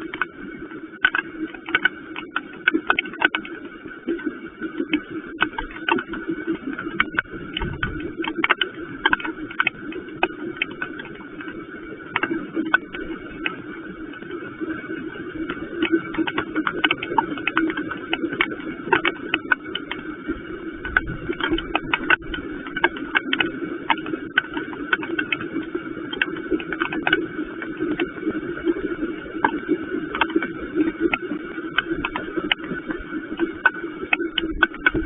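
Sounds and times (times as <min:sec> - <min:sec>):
raindrops ticking: 0:00.0 - 0:00.4, 0:01.0 - 0:35.0
steady hum: 0:00.0 - 0:35.0.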